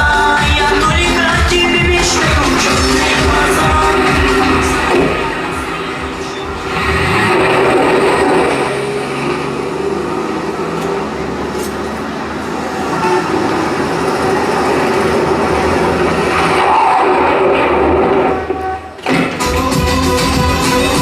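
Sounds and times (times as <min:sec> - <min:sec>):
rumbling vehicle noise: 0:00.0 - 0:21.0.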